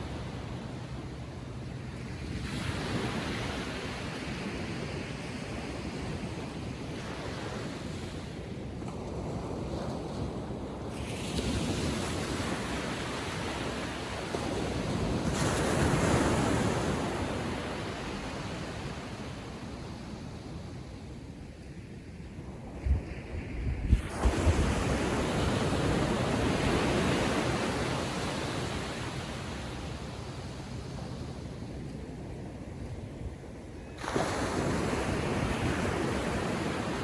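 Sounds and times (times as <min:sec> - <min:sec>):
small ocean waves breaking: 0:00.0 - 0:21.4, 0:22.8 - 0:37.0.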